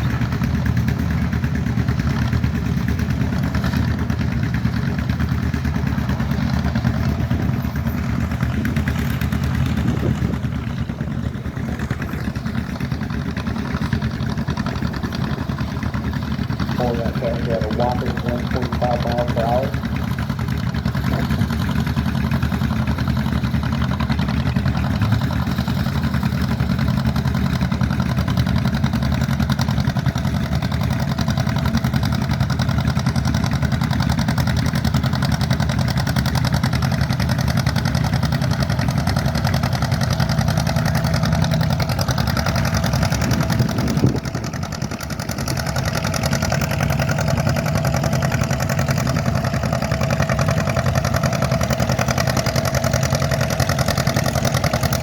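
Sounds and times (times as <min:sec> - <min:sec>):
tractor engine running loud: 0:00.0 - 0:55.0.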